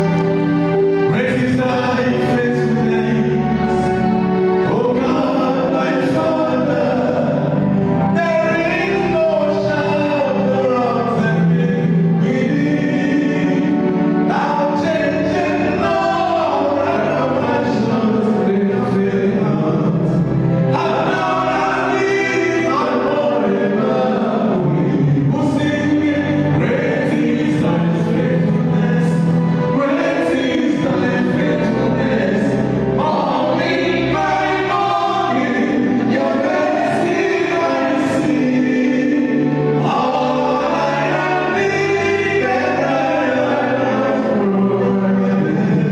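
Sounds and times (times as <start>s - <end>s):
choir singing gospel: 0.0s - 45.9s
instrumental backing: 0.0s - 45.9s.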